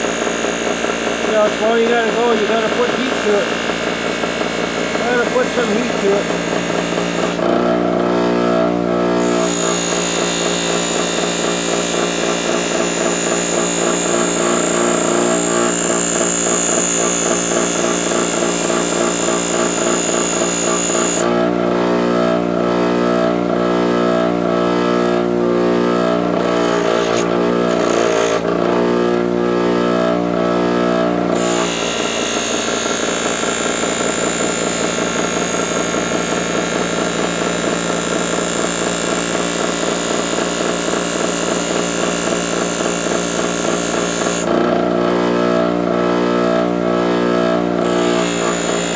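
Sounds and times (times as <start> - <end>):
polishing machine whining: 0.0 - 48.9.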